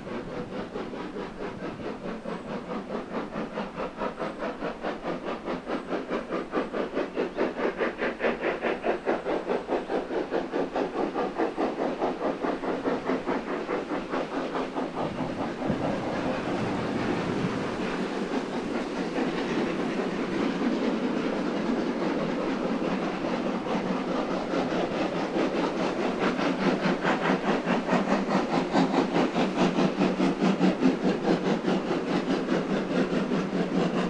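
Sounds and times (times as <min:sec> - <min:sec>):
steam locomotive exhaust beats: 0:00.0 - 0:34.0
train rushing past: 0:00.0 - 0:34.0.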